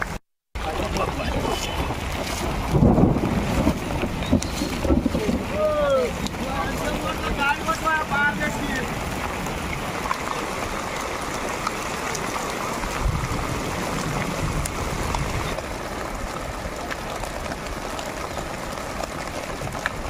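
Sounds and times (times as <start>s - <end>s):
wind noise on microphone: 0.0s - 7.4s, 8.0s - 20.0s
low rumbling wind gusts: 0.0s - 20.0s.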